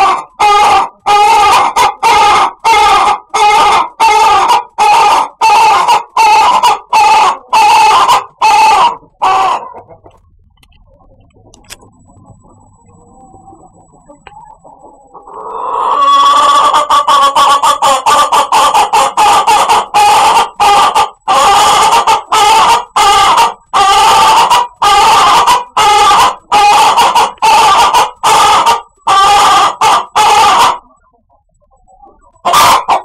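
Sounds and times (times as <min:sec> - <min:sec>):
chicken calling loudly: 0:00.0 - 0:10.2, 0:14.2 - 0:31.0, 0:32.0 - 0:33.0.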